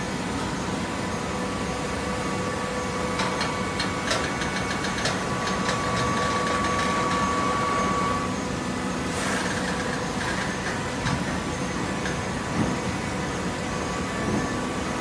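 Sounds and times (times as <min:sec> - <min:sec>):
machine whine: 0:00.0 - 0:15.0.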